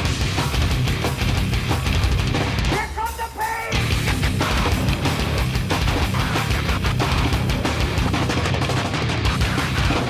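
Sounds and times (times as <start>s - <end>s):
distorted guitars: 0.0s - 10.0s
heavy metal music: 0.0s - 10.0s.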